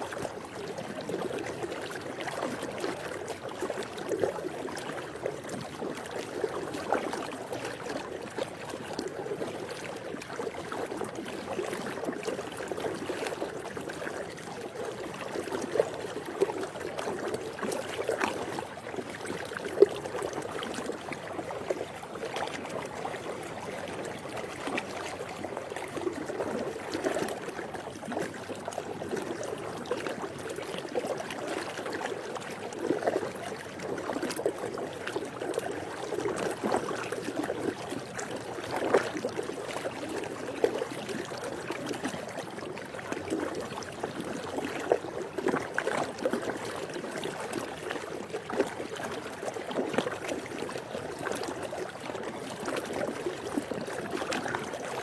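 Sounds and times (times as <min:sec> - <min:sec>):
pool water lapping: 0:00.0 - 0:55.0
small splashes and drips: 0:00.0 - 0:55.0.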